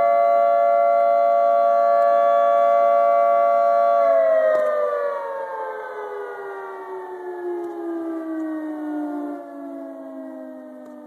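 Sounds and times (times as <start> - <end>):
warning siren winding down: 0.0 - 11.0.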